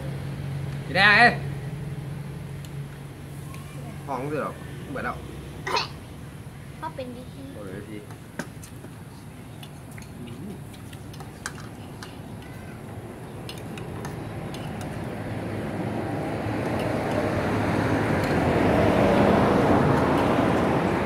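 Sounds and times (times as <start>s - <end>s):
vehicle approaching: 0.0s - 8.0s, 8.6s - 21.0s.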